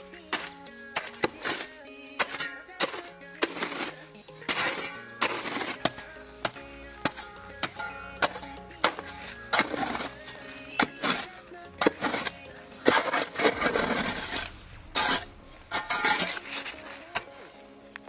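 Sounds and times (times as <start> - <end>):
digging tool striking ground: 0.3 - 17.3
scraping soil: 0.3 - 17.6.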